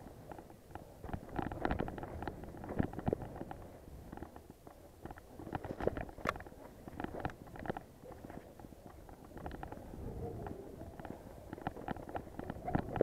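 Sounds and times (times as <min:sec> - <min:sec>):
bike rattling over bumps: 0:00.0 - 0:13.0.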